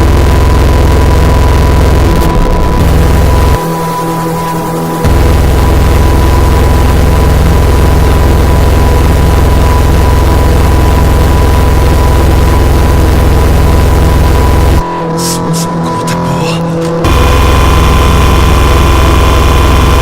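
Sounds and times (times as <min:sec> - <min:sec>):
distorted low drone: 0:00.0 - 0:20.0
steady high hum: 0:00.0 - 0:20.0.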